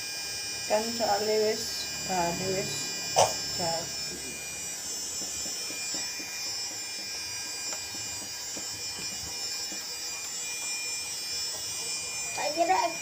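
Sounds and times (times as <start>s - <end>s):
electrical buzzing hum: 0.0s - 13.0s.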